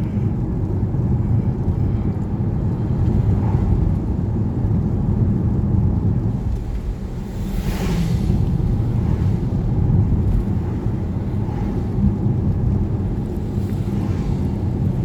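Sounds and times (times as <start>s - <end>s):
car road rumble from inside: 0.0s - 15.0s.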